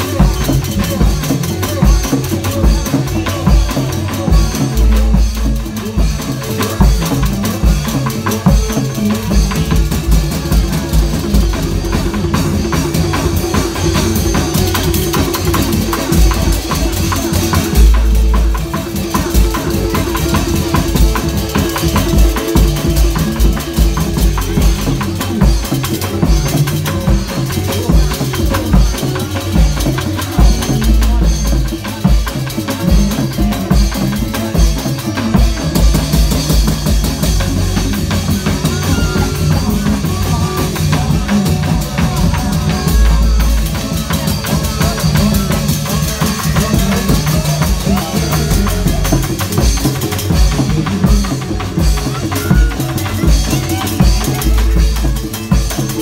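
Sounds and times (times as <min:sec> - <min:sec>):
drum-led traditional music: 0:00.0 - 0:56.0
wavering melody line: 0:00.0 - 0:56.0.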